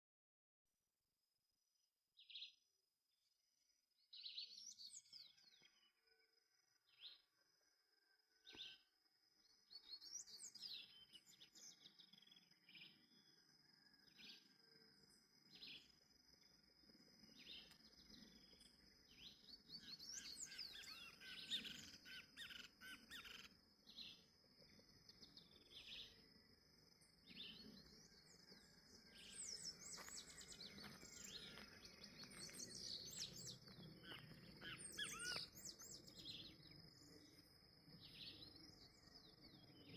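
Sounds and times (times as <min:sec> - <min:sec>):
small bird singing: 0:04.1 - 0:06.2, 0:06.9 - 0:07.3, 0:08.0 - 0:08.8, 0:09.4 - 0:16.0, 0:17.0 - 0:39.9.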